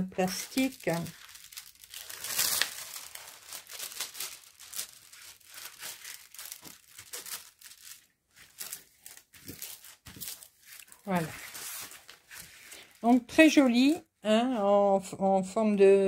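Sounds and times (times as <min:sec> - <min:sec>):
plastic film crinkling: 0:00.0 - 0:13.9.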